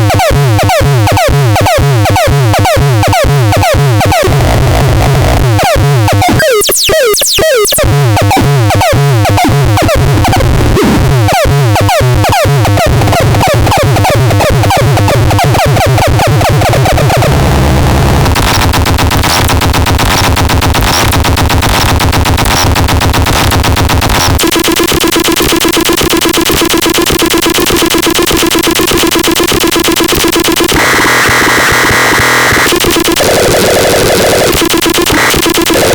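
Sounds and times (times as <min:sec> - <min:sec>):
buzzing synthesizer drone: 0:00.0 - 0:35.9
harsh synthesizer noise: 0:00.0 - 0:35.9.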